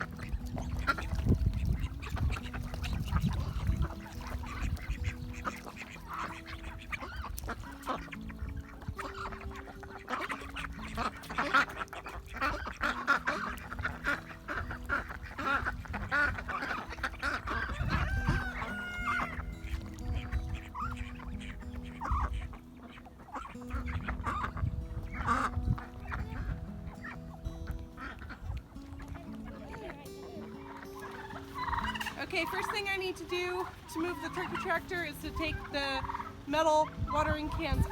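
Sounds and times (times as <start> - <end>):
turkeys calling: 0.0 - 37.9.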